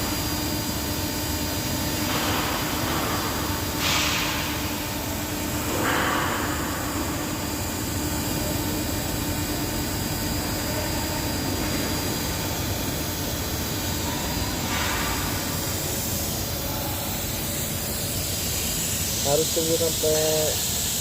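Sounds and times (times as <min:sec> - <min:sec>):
welding arc hissing and humming: 0:00.0 - 0:21.0.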